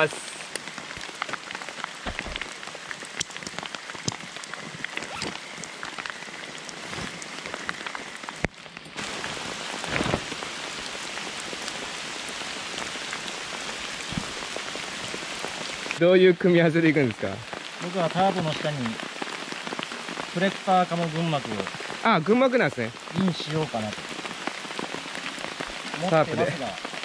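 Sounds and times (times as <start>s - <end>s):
sharp raindrop hits: 0.0s - 16.0s, 16.8s - 27.0s
rain falling on forest floor: 0.0s - 27.0s.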